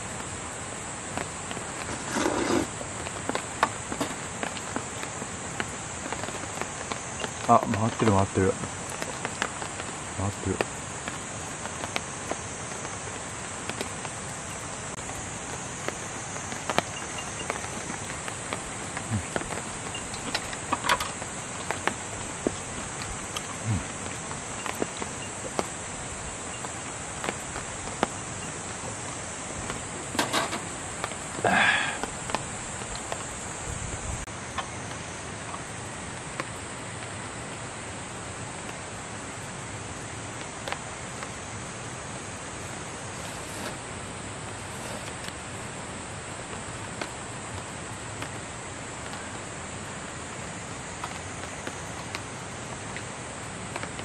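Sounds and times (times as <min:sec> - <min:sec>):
night insects chirring: 0:00.0 - 0:54.0
steady rushing hiss: 0:00.0 - 0:54.0.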